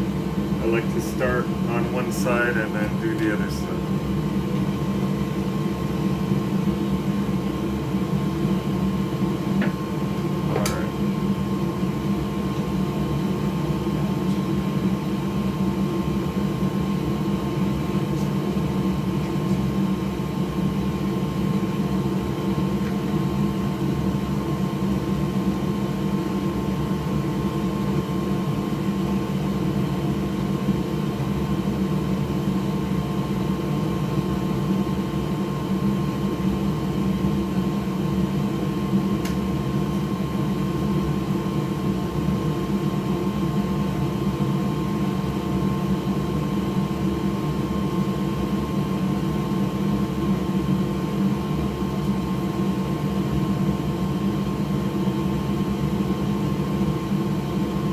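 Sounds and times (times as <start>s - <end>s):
electric fan motor whirring: 0.0s - 57.9s.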